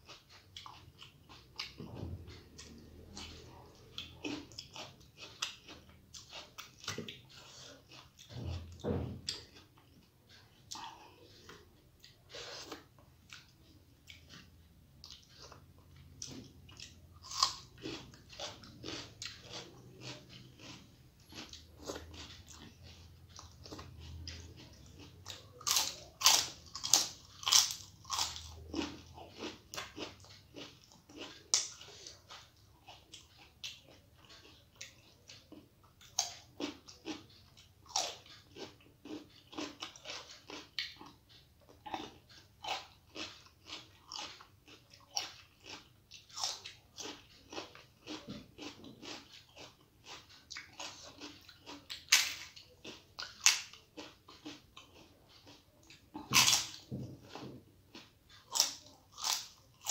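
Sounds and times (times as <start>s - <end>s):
person crunching crisp snack: 2.6s - 8.4s, 16.2s - 59.9s.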